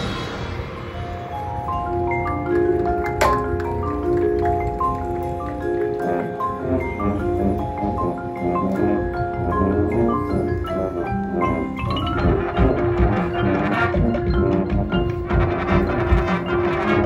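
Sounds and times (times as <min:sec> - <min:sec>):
percussion strokes: 0:00.0 - 0:17.0.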